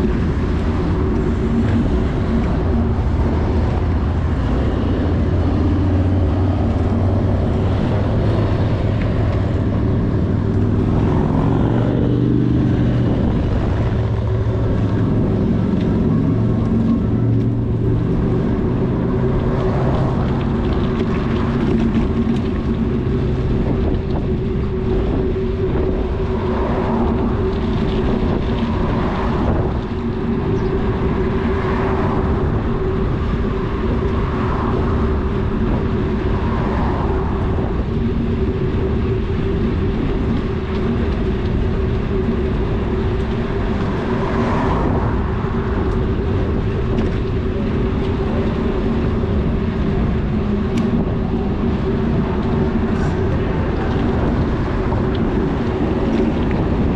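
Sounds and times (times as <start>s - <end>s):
bicycle rolling noise: 0.0s - 56.9s
constant low hum: 0.0s - 56.9s
wind rush: 0.0s - 56.9s.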